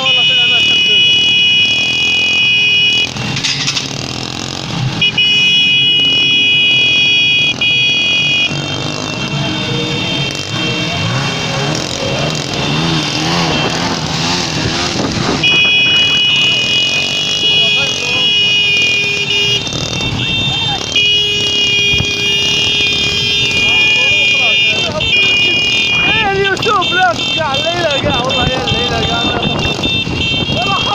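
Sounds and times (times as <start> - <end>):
engine and street noise: 0.0 - 30.9
vehicle horns honking: 0.0 - 30.9.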